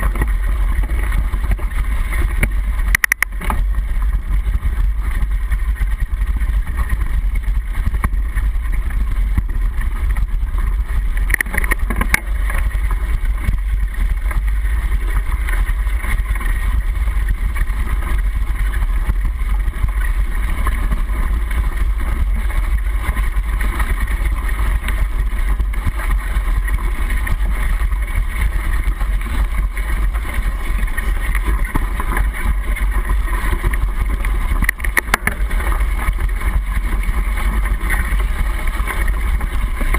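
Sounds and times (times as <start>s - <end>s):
bike knocking over bumps: 0.0s - 39.9s
bike tyre rumble on dirt: 0.0s - 39.9s.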